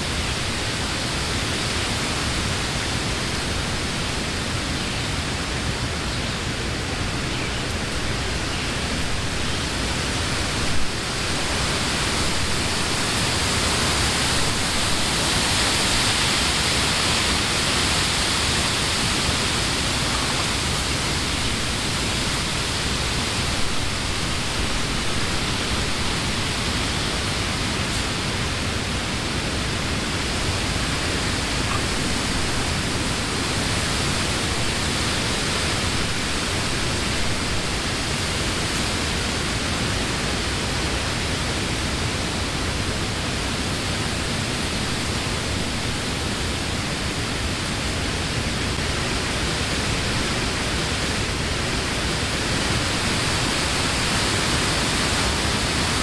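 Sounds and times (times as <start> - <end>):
wind through tree leaves: 0.0 - 56.0.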